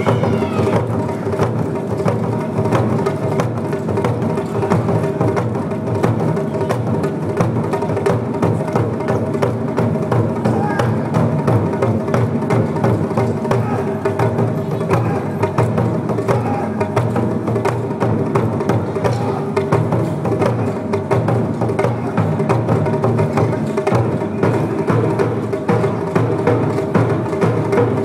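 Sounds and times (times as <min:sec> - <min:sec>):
ensemble drumming on barrel drums: 0:00.0 - 0:28.0.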